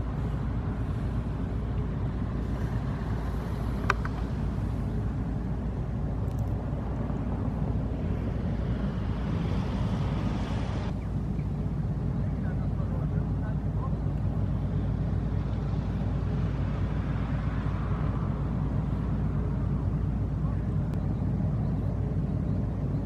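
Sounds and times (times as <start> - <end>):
diesel engines rumbling: 0.0 - 23.0.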